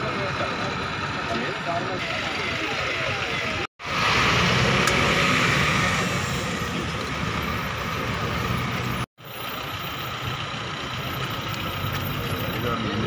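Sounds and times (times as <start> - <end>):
heavy vehicle engine running: 0.0 - 13.0
roadside traffic noise: 0.0 - 13.0.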